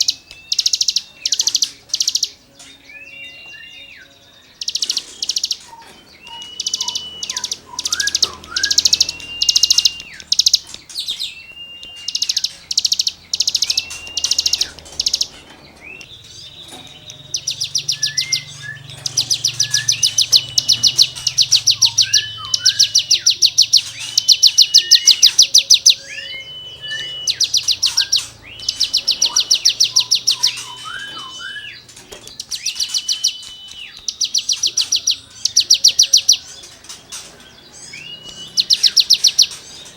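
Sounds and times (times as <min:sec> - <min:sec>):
songbird singing buzzy trills: 0:00.0 - 0:39.9.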